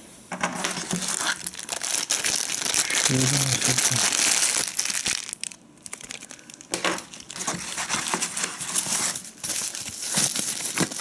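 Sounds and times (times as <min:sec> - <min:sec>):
plastic film crinkling: 0:00.6 - 0:11.0.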